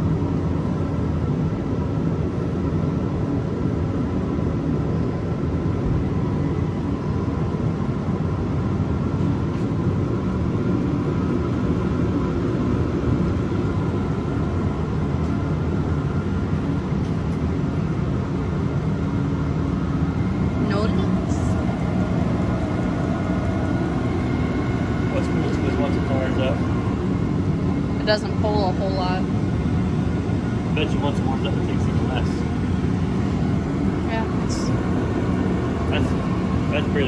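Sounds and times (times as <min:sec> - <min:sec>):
faint steady whine: 0:00.0 - 0:37.0
heater burner roar: 0:00.0 - 0:37.0.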